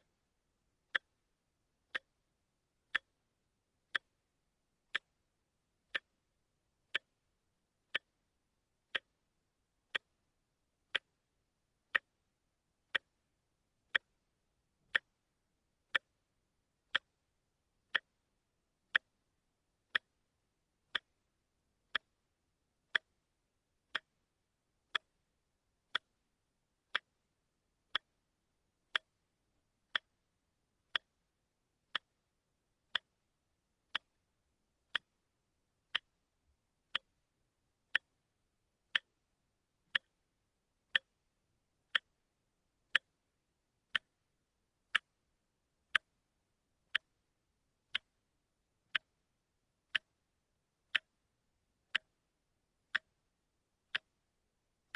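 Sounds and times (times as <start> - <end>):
wristwatch ticking: 0.0 - 3.2, 3.8 - 10.3, 10.9 - 14.3, 14.9 - 16.3, 16.9 - 41.3, 41.9 - 54.9.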